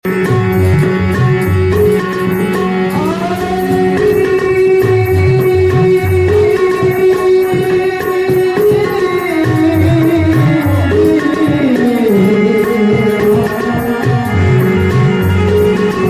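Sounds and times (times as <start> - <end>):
hand drum rhythm: 0.0 - 16.0
sustained melodic lead: 0.0 - 16.0.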